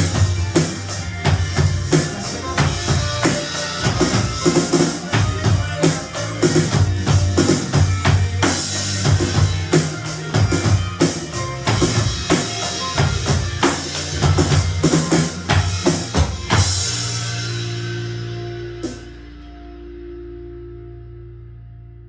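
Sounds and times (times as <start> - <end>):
drum kit beat: 0.0 - 19.3
pop ballad backing track: 0.0 - 21.6.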